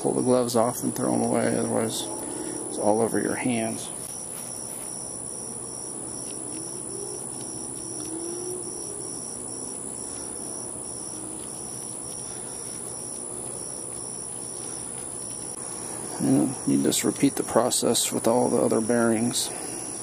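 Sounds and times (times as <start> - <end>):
constant high-pitched hiss: 0.0 - 20.0
cricket chirping: 0.0 - 20.0.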